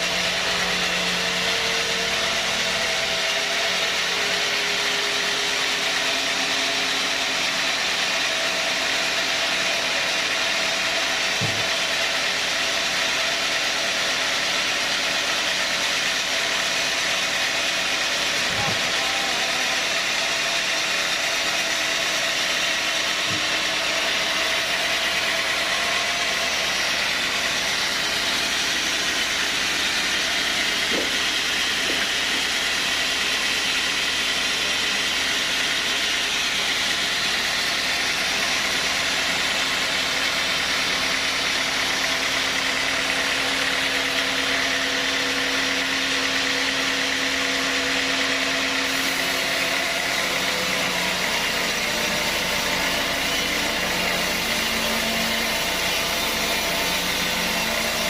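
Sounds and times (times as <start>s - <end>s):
sawmill machinery whirring: 0.0s - 58.0s.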